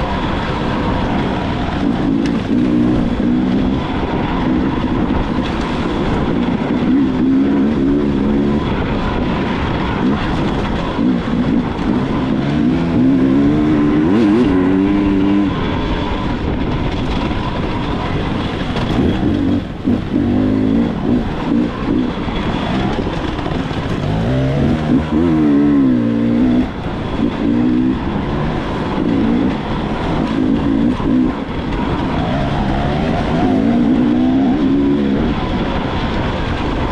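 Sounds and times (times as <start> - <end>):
dirt bike engine revving: 0.0 - 16.3, 17.8 - 36.8
steady rushing noise: 0.0 - 36.9.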